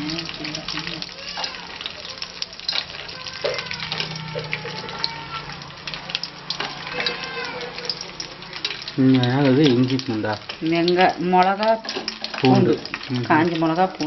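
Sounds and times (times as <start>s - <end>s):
leaves sizzling in hot oil: 0.0s - 14.0s
oil crackling and popping: 0.0s - 14.0s.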